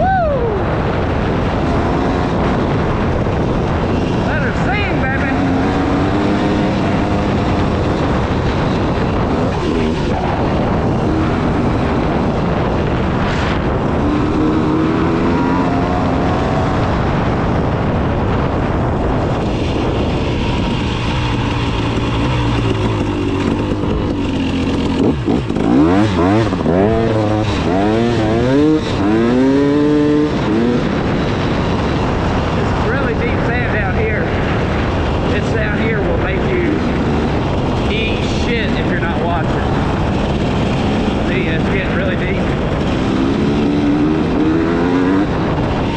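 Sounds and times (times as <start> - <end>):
steady rushing noise: 0.0 - 45.9
dirt bike engine revving: 0.6 - 45.9.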